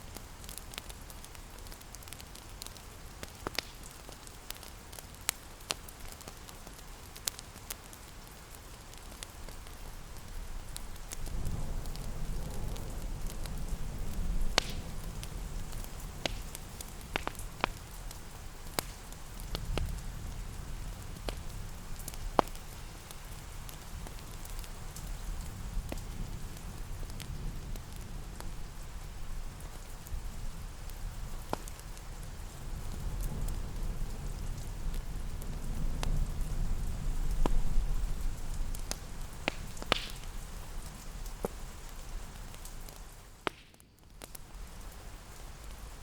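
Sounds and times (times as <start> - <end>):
steady rain: 0.0 - 46.0
wood fire crackling: 0.0 - 46.0.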